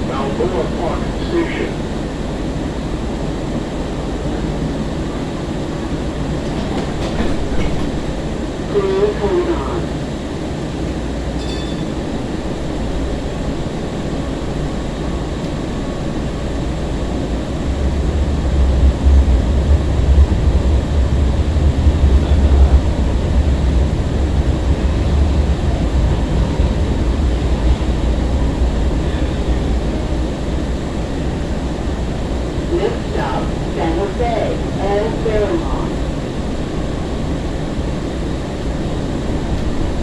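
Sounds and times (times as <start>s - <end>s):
wheels rumbling on rail: 0.0s - 40.0s.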